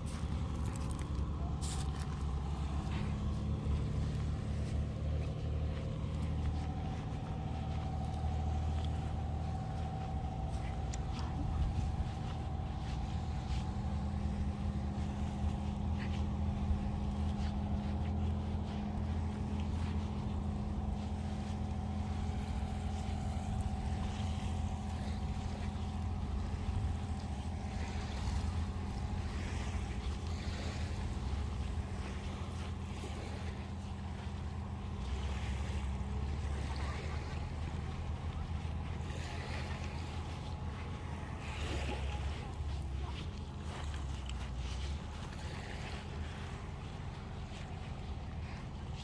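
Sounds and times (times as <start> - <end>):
motorboat engine running: 0.0 - 49.0.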